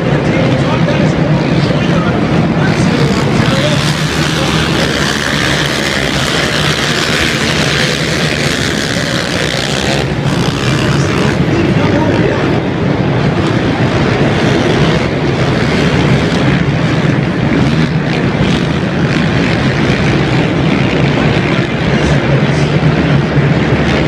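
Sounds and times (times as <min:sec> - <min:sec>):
racing quad bike engines droning: 0:00.0 - 0:24.0.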